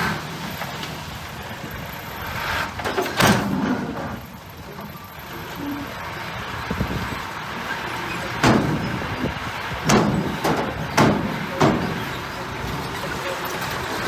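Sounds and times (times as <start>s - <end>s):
heavy machinery running: 0.0s - 14.0s.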